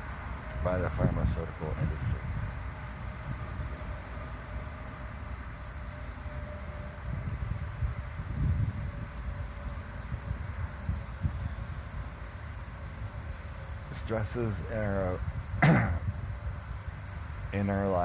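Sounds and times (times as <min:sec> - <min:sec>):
high-pitched whine and hiss: 0:00.0 - 0:18.0.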